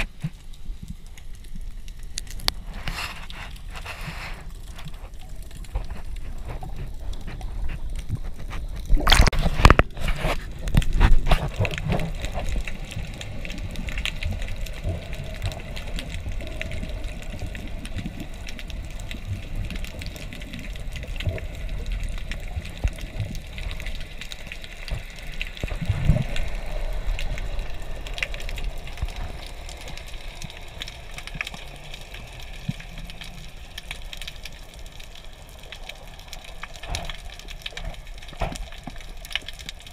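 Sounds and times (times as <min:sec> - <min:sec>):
muffled underwater rumble and hiss: 0:00.0 - 0:39.9
small ticks: 0:00.0 - 0:39.9.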